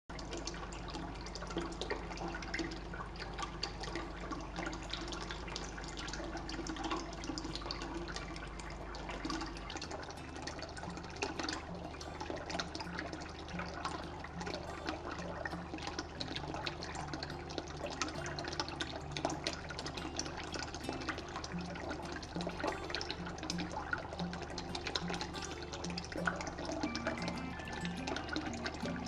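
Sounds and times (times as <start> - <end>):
fountain water splashing and trickling: 0.1 - 29.0.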